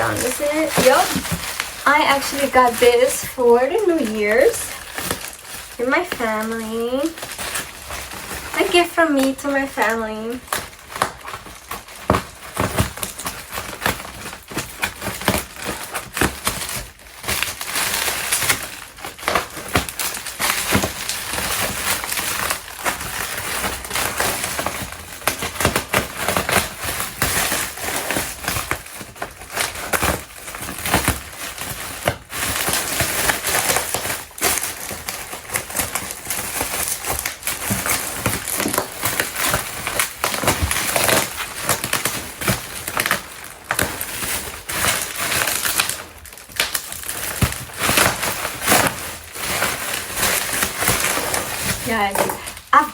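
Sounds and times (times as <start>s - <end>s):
cardboard rustling: 0.0s - 52.9s
wrapping crinkling: 0.0s - 52.9s.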